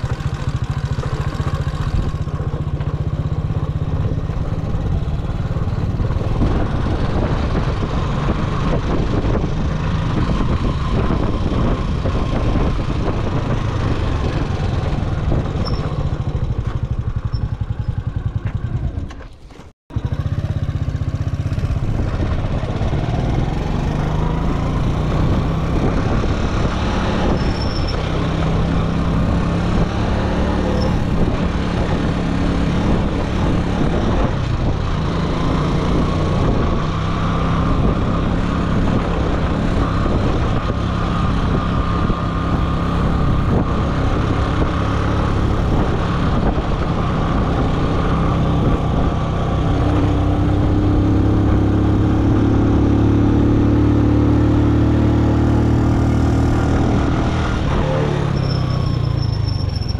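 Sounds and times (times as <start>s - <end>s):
road and wind noise: 0.0s - 59.9s
vehicle engine running: 0.0s - 59.9s.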